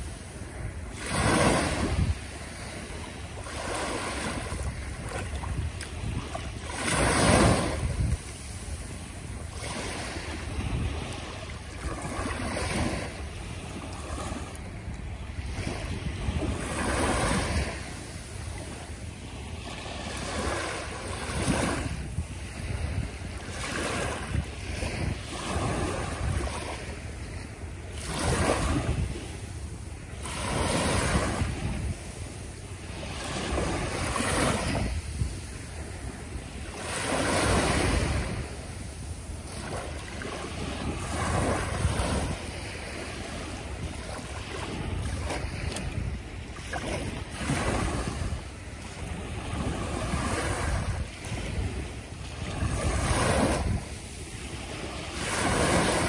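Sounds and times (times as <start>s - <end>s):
small waves washing on beach: 0.0s - 56.0s.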